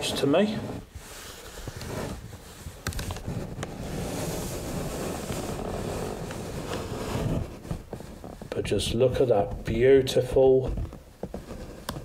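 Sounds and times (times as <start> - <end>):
plastic base scraping across table: 0.0 - 9.7, 10.6 - 12.0.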